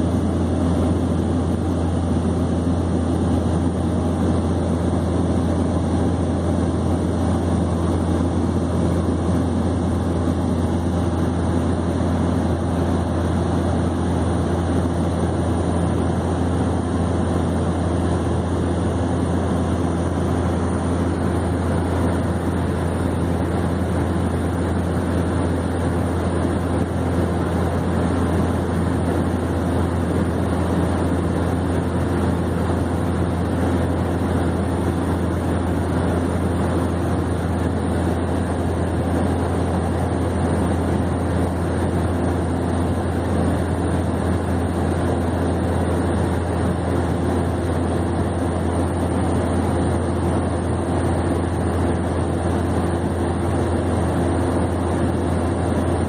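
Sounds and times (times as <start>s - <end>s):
propeller plane cabin drone: 0.0s - 56.0s.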